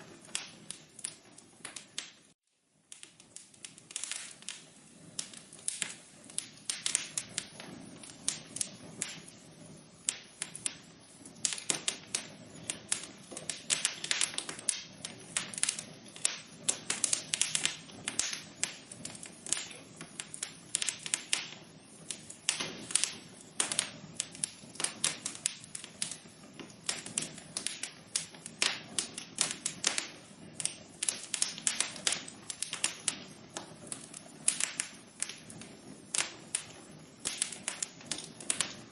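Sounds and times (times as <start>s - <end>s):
low rush of flame: 0.0s - 38.9s
wood fire crackling and popping: 0.0s - 38.9s.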